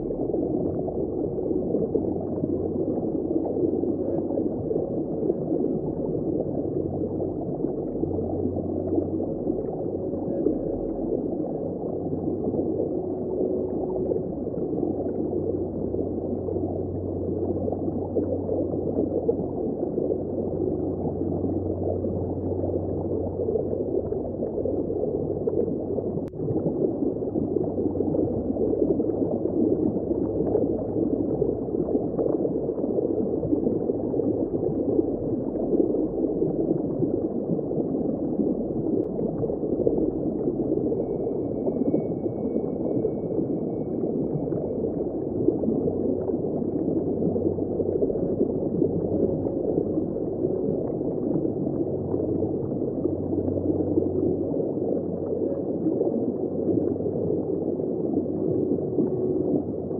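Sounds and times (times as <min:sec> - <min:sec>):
muffled underwater rush: 0:00.0 - 0:59.9.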